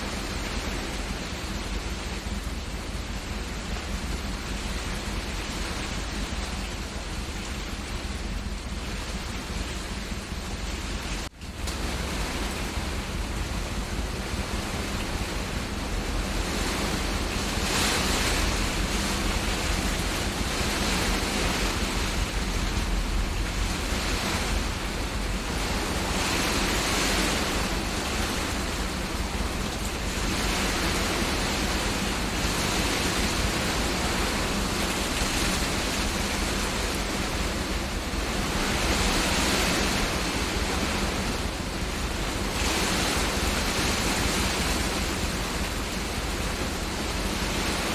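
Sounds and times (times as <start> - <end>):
heavy rain and hail: 0.0 - 47.9
strong wind gusts: 0.0 - 47.9.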